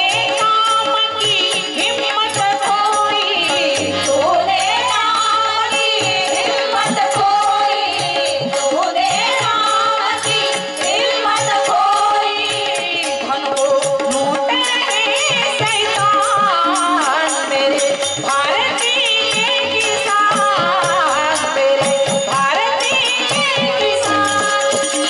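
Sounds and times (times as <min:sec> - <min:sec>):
woman singing devotional song: 0:00.0 - 0:25.0.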